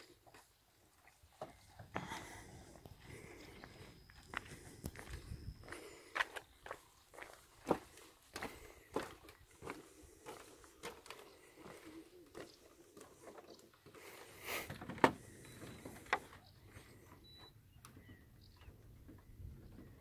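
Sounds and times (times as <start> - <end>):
footsteps on wooden dock: 0.2 - 16.9.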